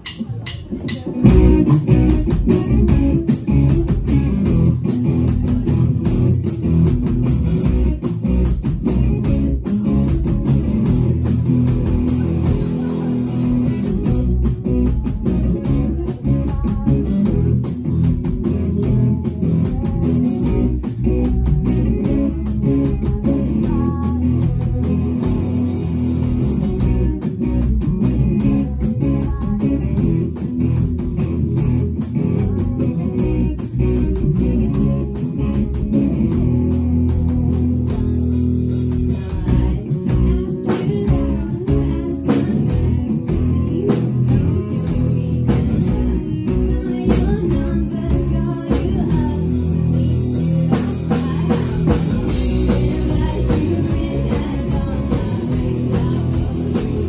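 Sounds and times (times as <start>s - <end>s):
drum kit beat: 0.0s - 57.0s
electric bass: 0.0s - 57.0s
electric guitars: 0.0s - 57.0s.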